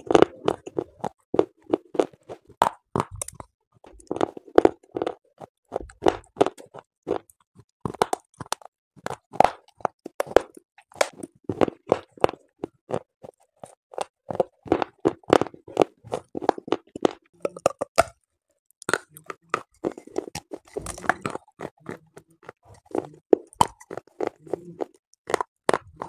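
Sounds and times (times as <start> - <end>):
crisp crunching chews: 0.0 - 26.0.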